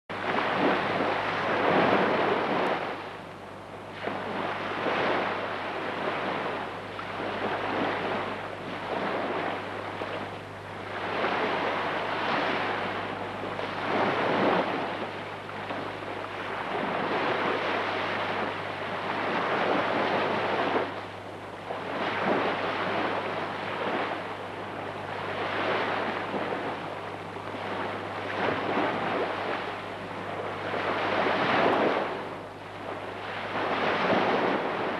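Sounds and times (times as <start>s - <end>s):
sea waves breaking: 0.1s - 34.9s
steady low hum: 0.1s - 34.9s.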